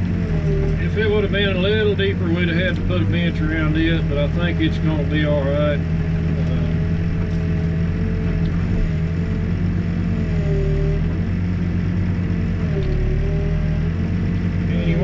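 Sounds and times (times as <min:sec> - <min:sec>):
diesel engine running under load: 0:00.0 - 0:15.0
hydraulic whine: 0:00.0 - 0:15.0.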